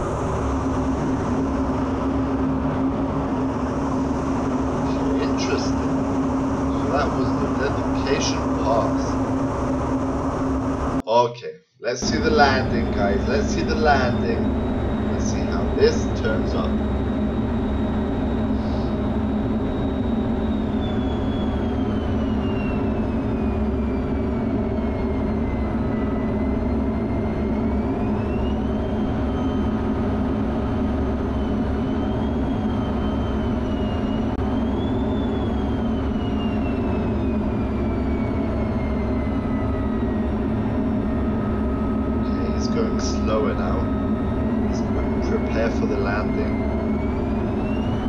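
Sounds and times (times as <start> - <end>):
jet engine roar in cockpit: 0.0 - 11.2, 11.8 - 48.0
high engine whine: 0.0 - 48.0.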